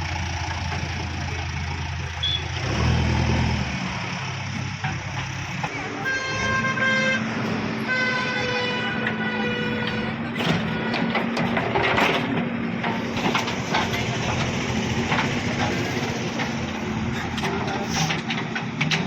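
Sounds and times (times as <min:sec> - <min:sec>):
diesel engine running: 0:00.0 - 0:06.0, 0:06.9 - 0:19.0.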